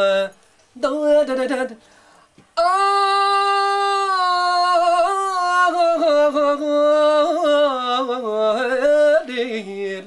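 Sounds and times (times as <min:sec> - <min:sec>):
man singing melisma: 0:00.0 - 0:01.9, 0:02.5 - 0:10.0.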